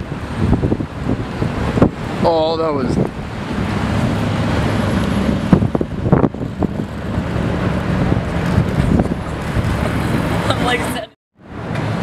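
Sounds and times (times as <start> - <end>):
car engine and exhaust drone: 0.0 - 10.6.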